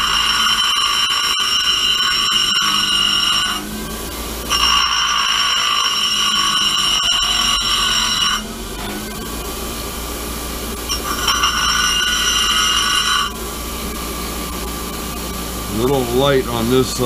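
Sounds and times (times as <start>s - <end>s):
grinder motor running: 0.0s - 17.0s
high grinding whine: 0.0s - 17.0s.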